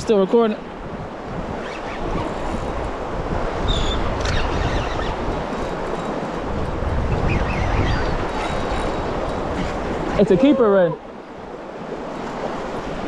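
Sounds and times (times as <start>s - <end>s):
water sounds: 0.0s - 13.0s
wind buffeting the microphone: 0.0s - 13.0s.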